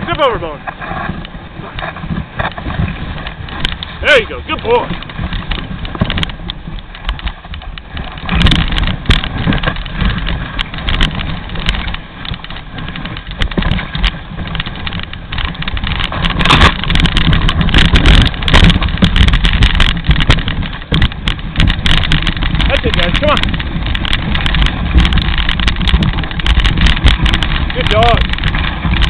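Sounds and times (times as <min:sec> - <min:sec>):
sled runners scraping on snow: 0:00.0 - 0:29.0.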